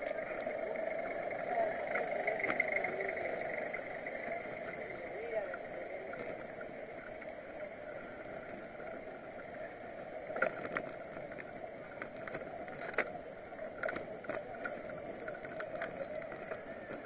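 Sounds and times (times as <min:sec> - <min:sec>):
bicycle riding noise: 0:00.0 - 0:17.0.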